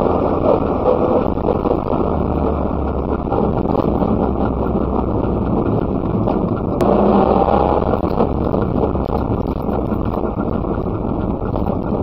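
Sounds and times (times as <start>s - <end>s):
road noise: 0.0s - 12.0s
two-stroke engine running: 0.0s - 12.0s
wind on microphone: 0.0s - 12.0s.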